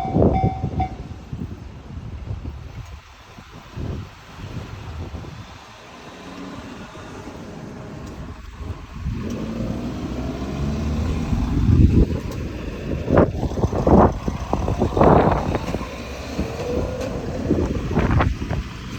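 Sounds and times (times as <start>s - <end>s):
train rumbling past: 0.0s - 18.9s.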